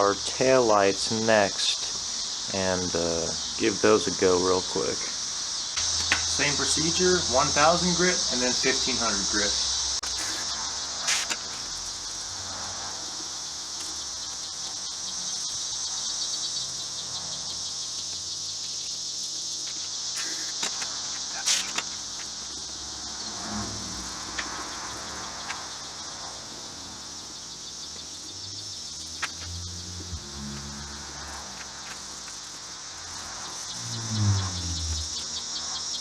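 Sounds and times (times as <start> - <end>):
high insect chorus: 0.0 - 36.0.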